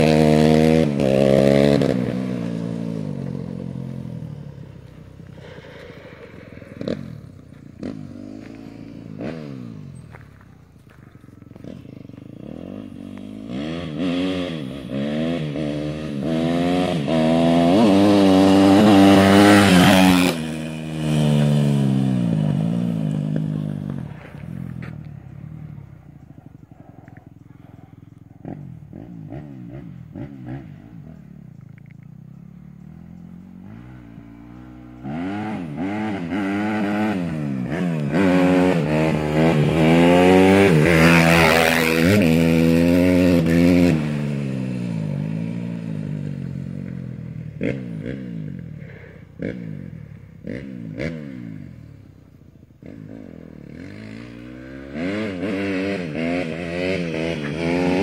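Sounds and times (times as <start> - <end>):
small motorcycle engine revving: 0.0 - 58.0.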